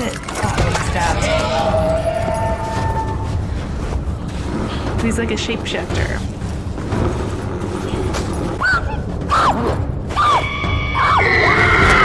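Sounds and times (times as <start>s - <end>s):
low rumbling horror score: 0.0s - 12.0s.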